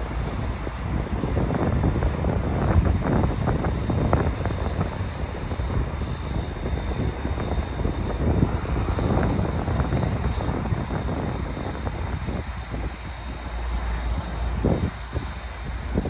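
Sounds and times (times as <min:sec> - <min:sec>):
low background rumble: 0:00.0 - 0:16.0
wind buffeting microphone: 0:00.0 - 0:16.0.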